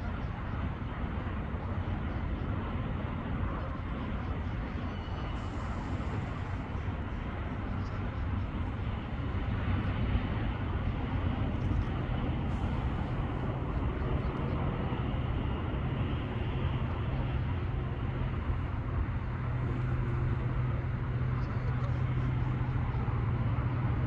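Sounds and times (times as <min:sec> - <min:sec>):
outdoor rumble and hiss: 0:00.0 - 0:24.0.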